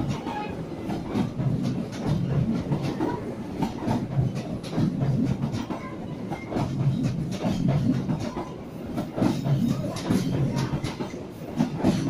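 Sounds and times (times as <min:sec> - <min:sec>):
train rolling past: 0:00.0 - 0:12.0
wheel clacks over rails: 0:00.0 - 0:12.0.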